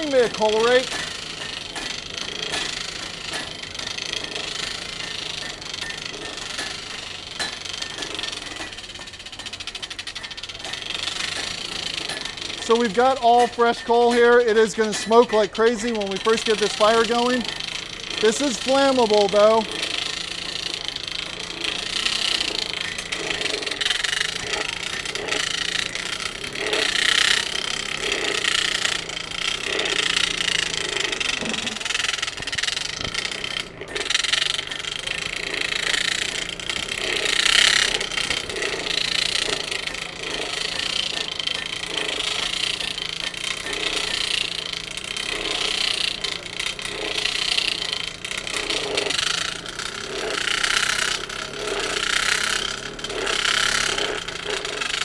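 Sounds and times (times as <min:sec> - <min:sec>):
forge blower rushing: 0:00.0 - 0:55.0.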